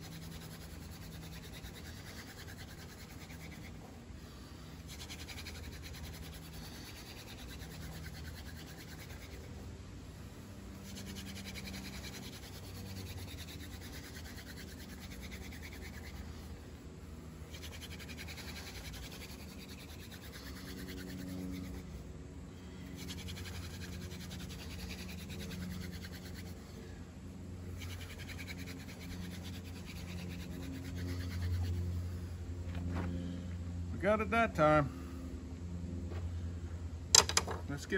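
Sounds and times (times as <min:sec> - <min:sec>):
wooden spindle scratching on board: 0:00.0 - 0:22.1, 0:22.9 - 0:27.0, 0:27.6 - 0:32.0, 0:37.2 - 0:37.7.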